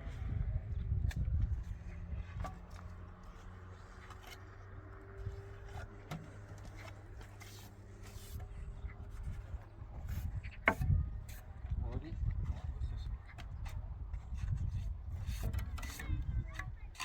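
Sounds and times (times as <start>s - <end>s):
low engine-like hum: 0.0s - 14.8s.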